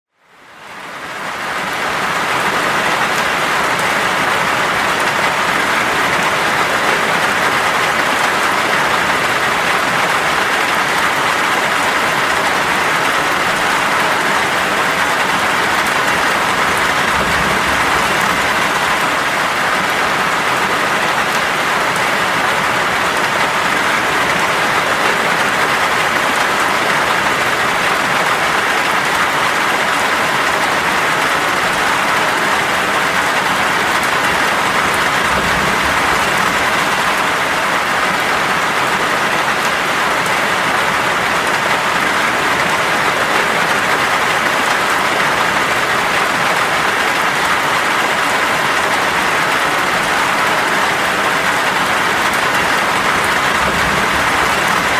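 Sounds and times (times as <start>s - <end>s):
heavy rain downpour: 0.1s - 54.9s.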